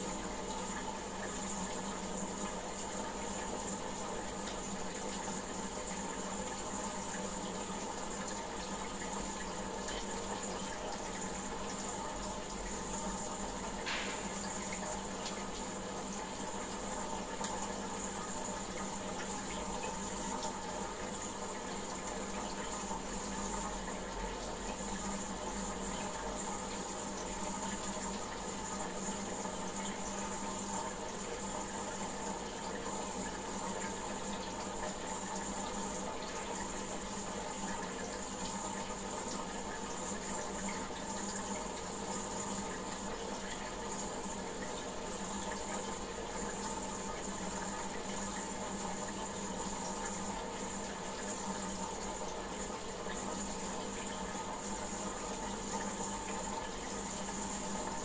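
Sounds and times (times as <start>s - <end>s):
aquarium water bubbling: 0.0s - 58.0s.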